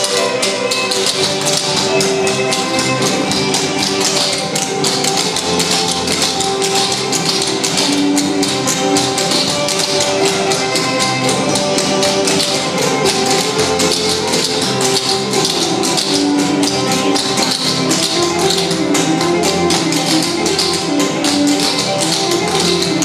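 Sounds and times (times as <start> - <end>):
music with steady melody: 0.0 - 23.0
tap shoes striking floor: 0.0 - 23.0.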